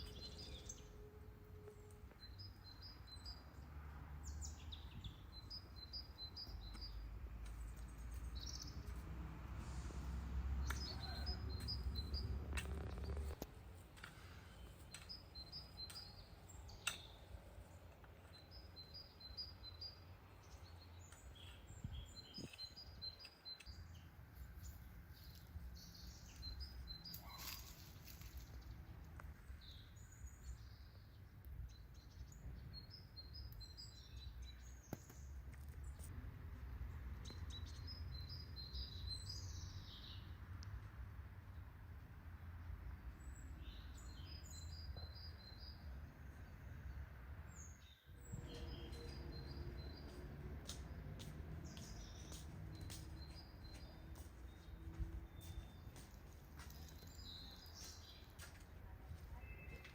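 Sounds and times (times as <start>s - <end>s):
small birds chirping: 4.2s - 10.0s, 10.6s - 36.1s, 42.6s - 59.9s.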